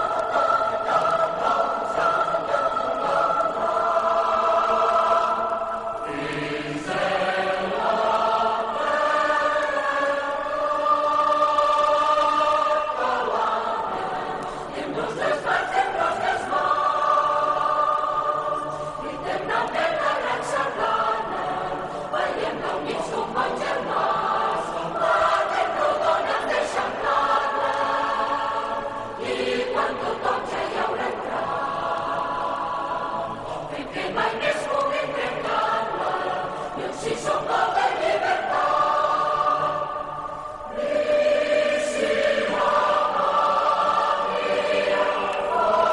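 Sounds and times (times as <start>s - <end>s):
many voices singing together: 0.0s - 45.9s.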